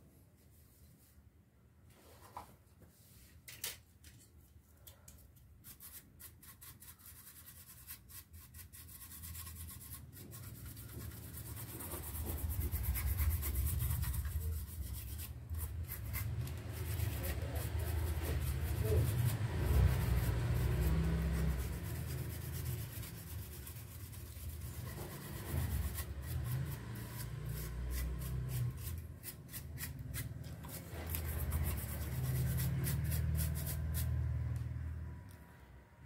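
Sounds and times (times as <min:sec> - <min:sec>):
rubbing and handling noise: 0:00.1 - 0:34.4.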